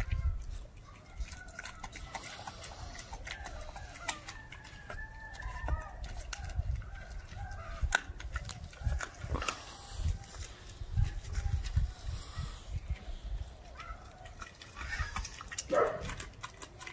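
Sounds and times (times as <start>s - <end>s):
puppy chewing bone: 0.0s - 16.9s.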